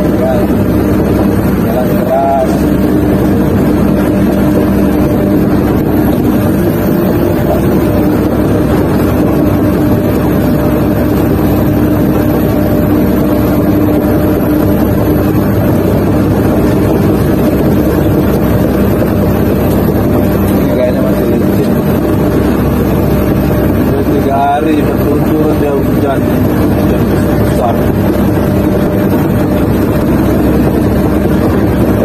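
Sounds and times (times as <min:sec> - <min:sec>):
excavator diesel engine drone: 0:00.0 - 0:32.0.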